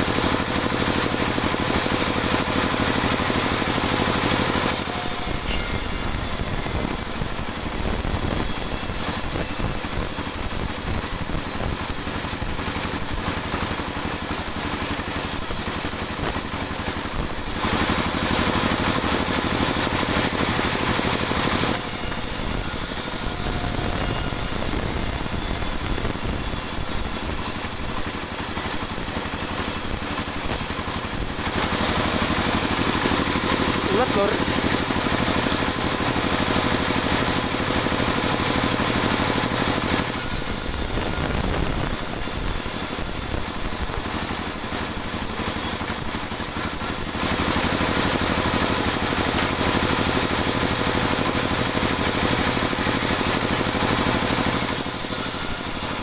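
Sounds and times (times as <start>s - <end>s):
band sawmill cutting wood: 0.0s - 56.0s.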